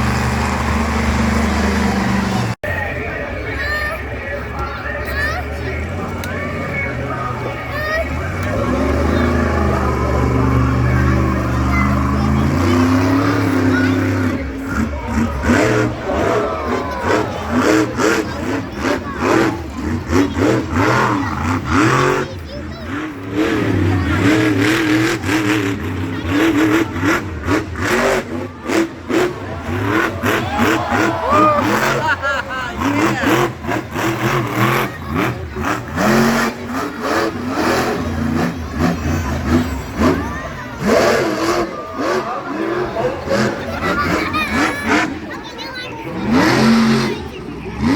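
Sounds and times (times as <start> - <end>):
truck engine revving: 0.0 - 47.9.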